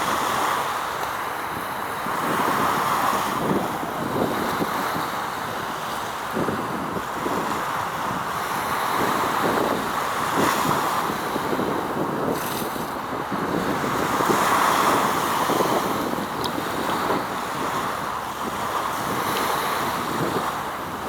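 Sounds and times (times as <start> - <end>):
wind buffeting microphone: 1.2 - 21.0.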